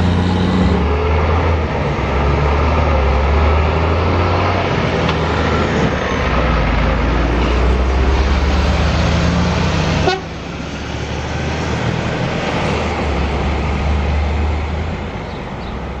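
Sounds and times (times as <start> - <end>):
heavy truck engine rumbling: 0.0 - 16.0.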